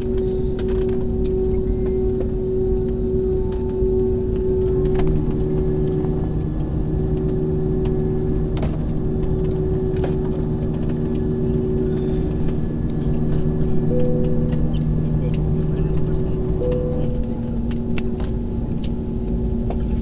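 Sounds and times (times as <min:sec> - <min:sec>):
aircraft engines humming: 0:00.0 - 0:20.0.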